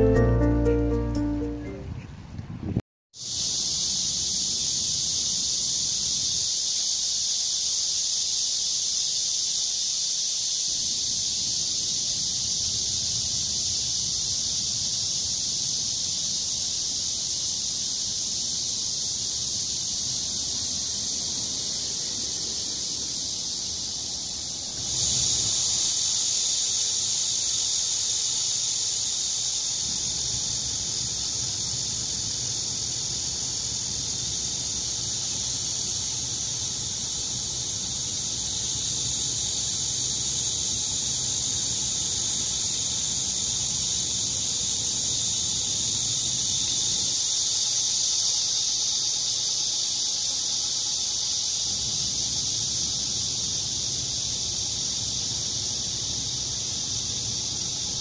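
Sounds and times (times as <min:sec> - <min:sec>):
cicadas singing: 0:00.0 - 0:01.9, 0:03.1 - 0:58.0.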